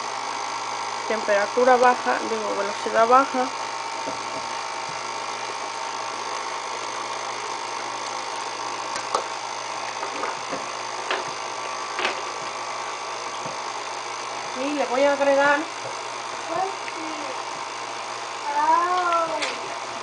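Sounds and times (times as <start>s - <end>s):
stand mixer running: 0.0s - 20.0s.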